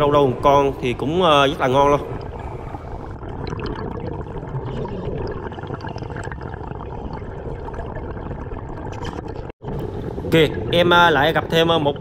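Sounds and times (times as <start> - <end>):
underwater watery rush: 1.5 - 12.0.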